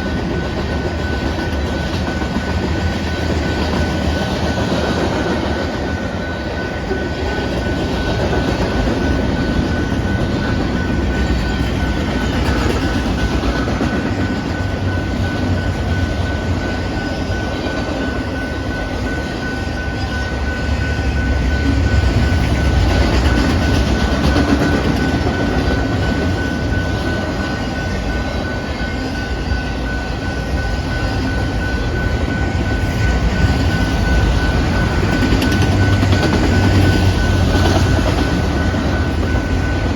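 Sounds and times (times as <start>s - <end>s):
train wheels clattering on rail: 0.0s - 39.9s.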